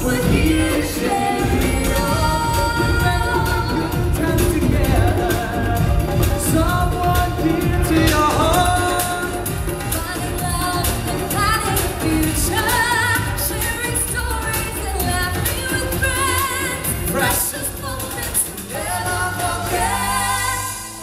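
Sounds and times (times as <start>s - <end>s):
pop backing music with beat: 0.0s - 21.0s
singers with vibrato: 0.0s - 21.0s.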